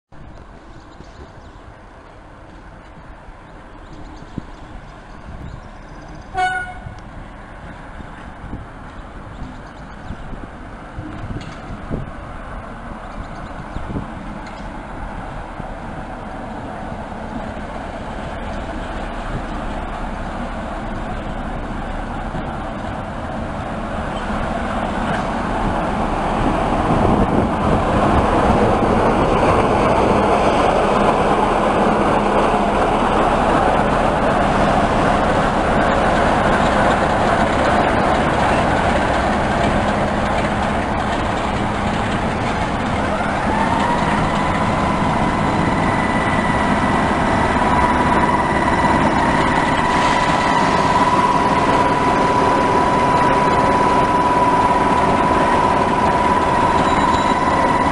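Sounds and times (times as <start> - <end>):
diesel locomotive engine running: 0.3 - 57.9.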